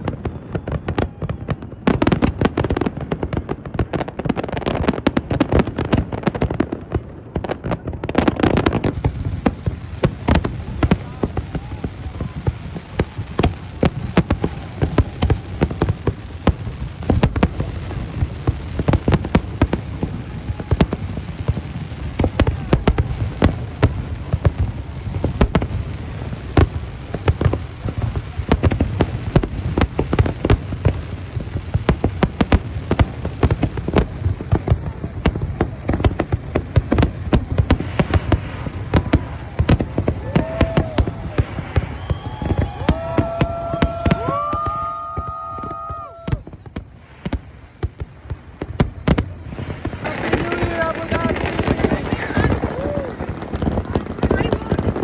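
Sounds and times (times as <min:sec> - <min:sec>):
crowd voices: 0:00.0 - 0:55.0
fireworks bangs and crackles: 0:00.0 - 0:55.0.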